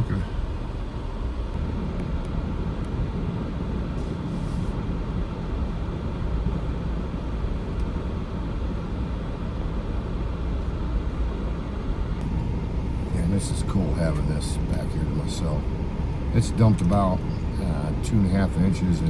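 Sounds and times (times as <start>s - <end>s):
vehicle engine idling: 0.0s - 2.8s, 3.5s - 19.0s.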